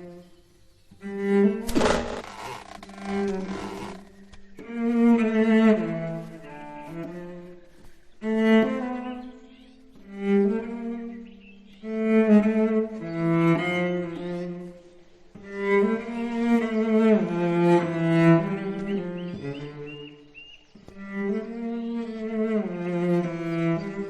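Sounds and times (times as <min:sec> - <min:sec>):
bowed string melody: 0:00.0 - 0:24.0.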